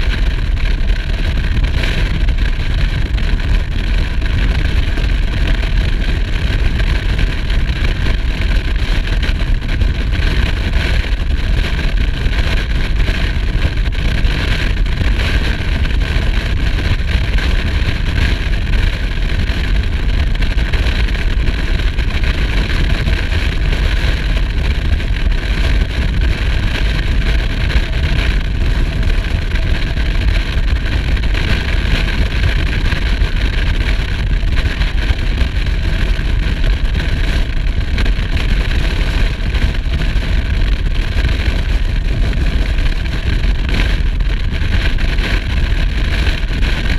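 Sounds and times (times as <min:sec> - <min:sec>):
motorcycle running steadily: 0:00.0 - 0:46.9
wind and road noise: 0:00.0 - 0:46.9.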